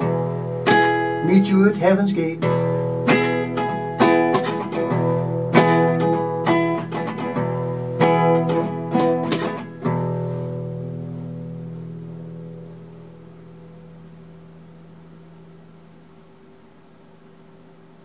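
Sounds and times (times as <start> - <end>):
acoustic guitar strumming chords: 0.0 - 16.6.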